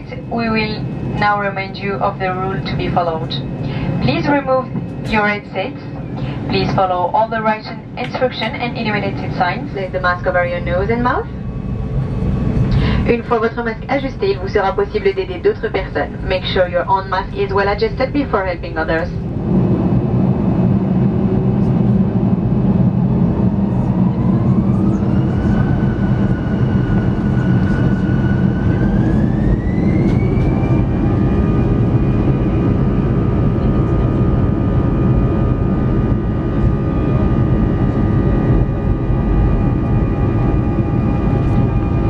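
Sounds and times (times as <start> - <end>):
jet engines spooling up: 0.0 - 42.0.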